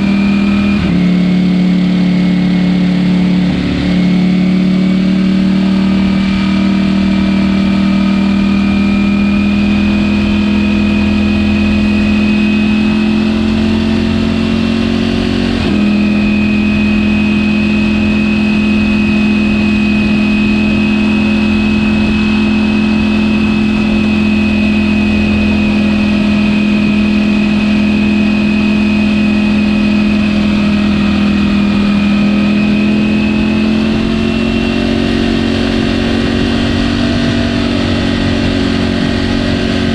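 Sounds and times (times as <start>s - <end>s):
high whine: 0.0s - 39.9s
motorcycle engine running: 0.0s - 39.9s.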